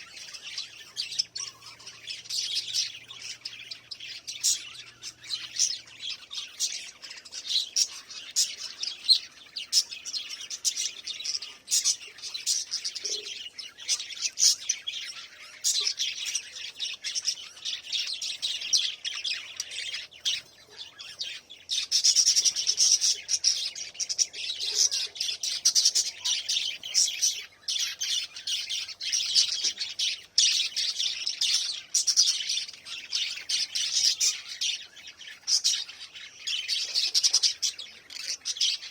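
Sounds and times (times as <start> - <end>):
parrots chirping and chattering: 0.0 - 38.9.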